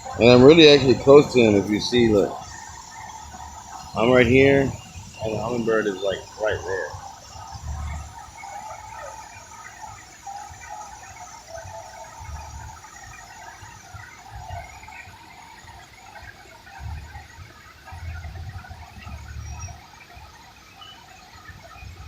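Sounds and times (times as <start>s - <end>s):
birds chirping and calling: 0.0s - 22.0s
wind rumbling on microphone: 0.0s - 22.0s.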